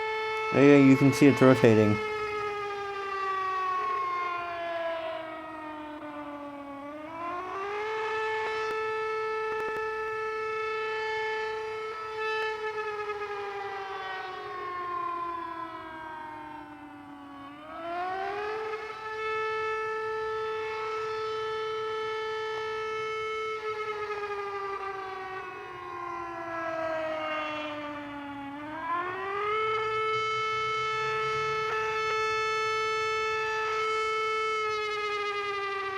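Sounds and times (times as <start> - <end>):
warning siren rising and falling: 0.0 - 35.9.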